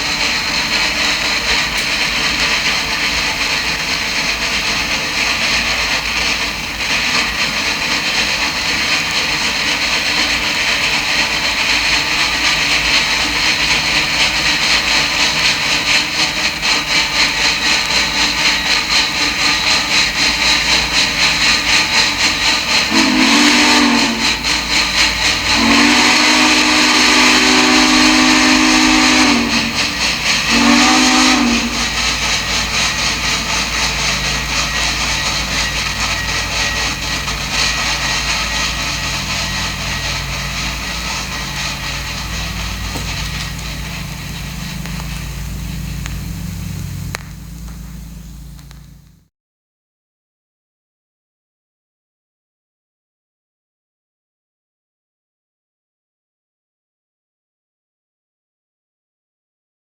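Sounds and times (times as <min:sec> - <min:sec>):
steam hiss: 0:00.0 - 0:49.2
steam whistle blasts: 0:00.0 - 0:49.2
steam locomotive chuffing: 0:00.0 - 0:49.3.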